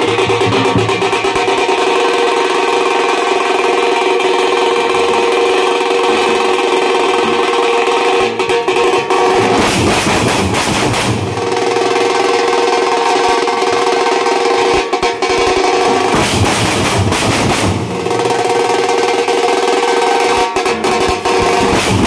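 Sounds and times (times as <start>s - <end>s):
barrel drums beaten with sticks: 0.0s - 22.0s.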